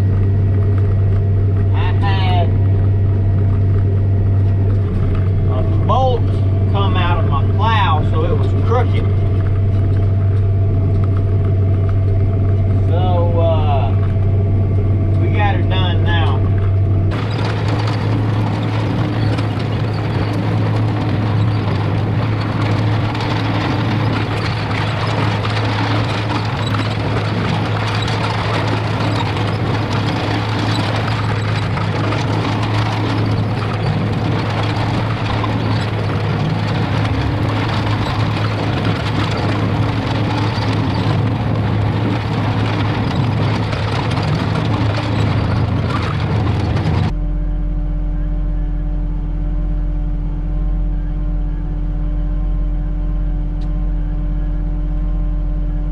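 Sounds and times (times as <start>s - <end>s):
tractor diesel engine drone: 0.0s - 55.9s.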